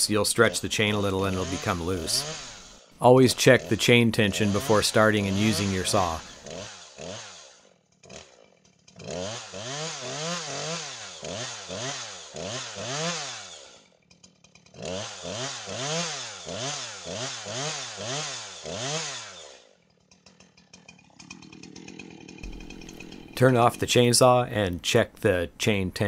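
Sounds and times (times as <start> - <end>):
chainsaw engine revving: 0.0 - 25.1.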